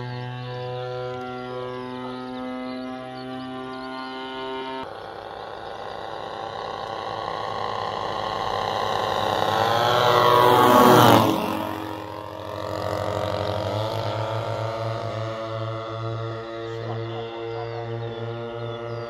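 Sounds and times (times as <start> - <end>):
model plane engines droning: 0.0 - 19.0.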